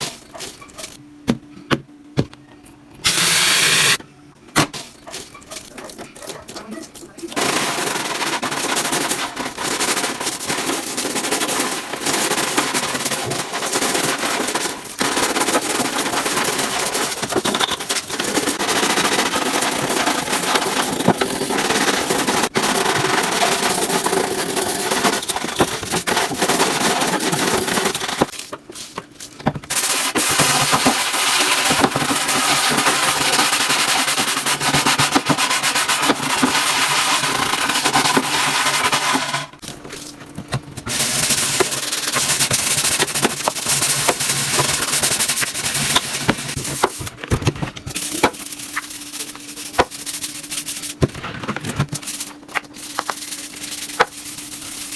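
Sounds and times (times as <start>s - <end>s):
crackling and scrubbing: 4.8s - 54.9s.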